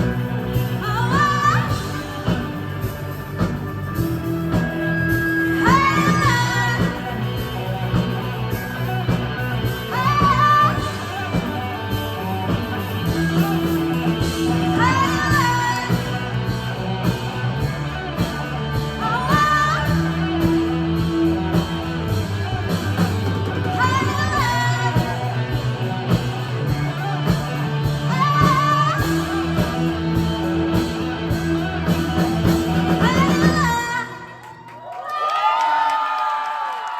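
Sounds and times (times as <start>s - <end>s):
live rock band playing: 0.0s - 34.3s.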